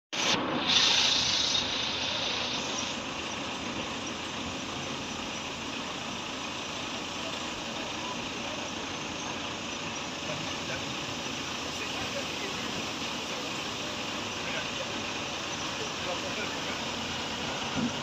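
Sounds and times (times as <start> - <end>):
truck engine running: 0.1 - 18.0
sand pouring with hissing rush: 0.2 - 18.0.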